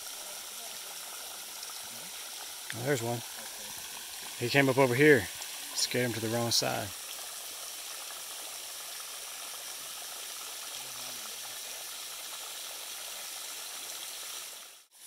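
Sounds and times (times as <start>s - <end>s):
water bubbling from pond aerator: 0.0s - 14.7s.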